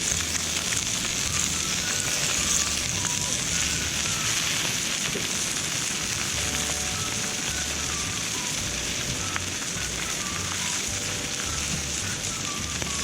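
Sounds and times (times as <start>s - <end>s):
steak sizzling over fire: 0.0s - 13.0s.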